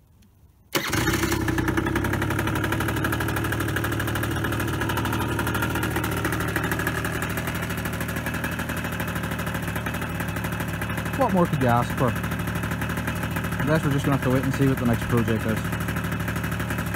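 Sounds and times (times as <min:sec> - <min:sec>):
two-stroke engine idling: 0:00.8 - 0:16.9.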